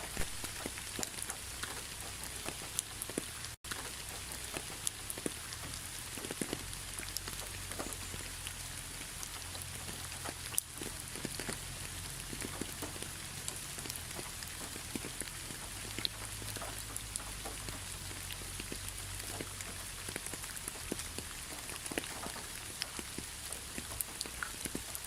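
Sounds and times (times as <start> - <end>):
raindrops pattering on a surface: 0.0 - 25.0.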